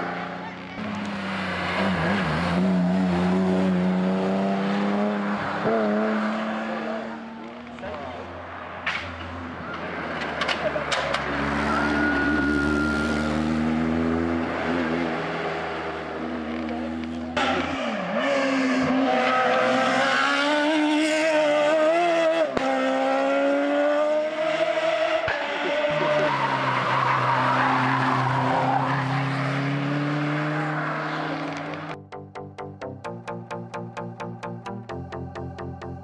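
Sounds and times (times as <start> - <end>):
car engines revving hard: 0.0 - 32.0.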